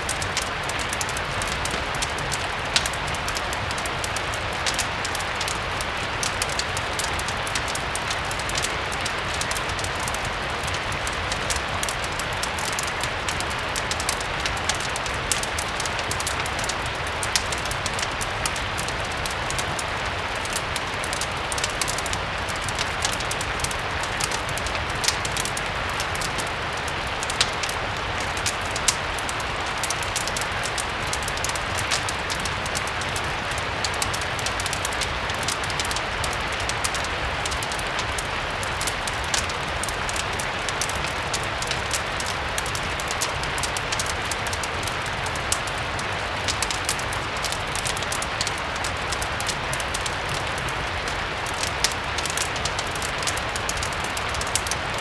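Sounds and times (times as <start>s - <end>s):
fireplace crackling: 0.0s - 55.0s
rain hissing: 0.0s - 55.0s.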